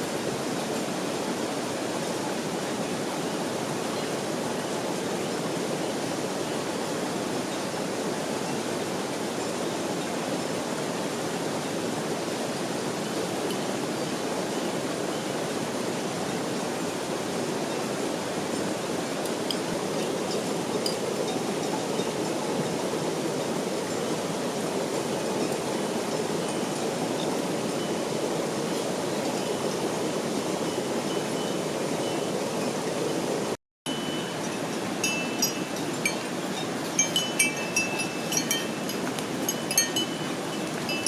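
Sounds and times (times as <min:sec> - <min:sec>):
water rushing: 0:00.0 - 0:41.0.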